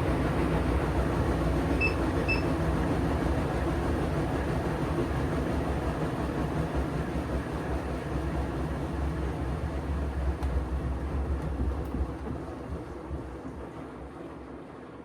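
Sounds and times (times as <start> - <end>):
washing machine spinning: 0.0 - 13.4.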